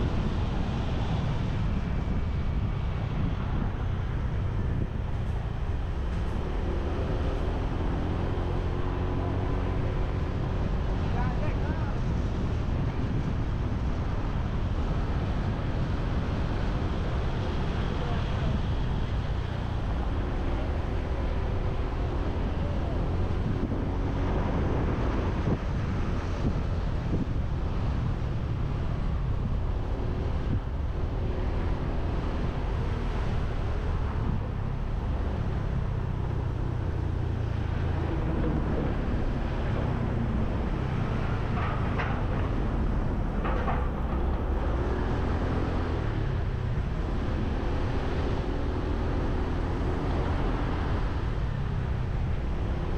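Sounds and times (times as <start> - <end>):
street traffic: 0.0 - 52.9
wind rumble on microphone: 0.0 - 52.9.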